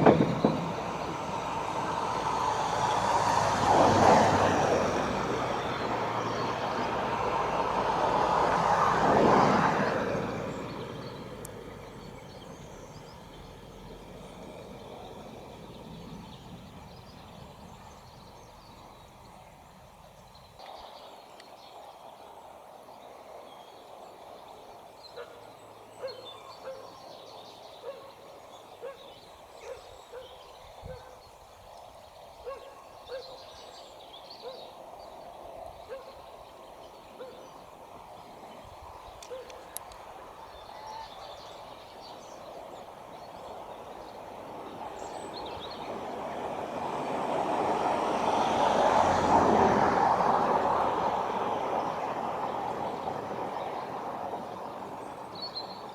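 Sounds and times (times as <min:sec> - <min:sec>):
faint outdoor background noise: 0:00.0 - 0:55.9.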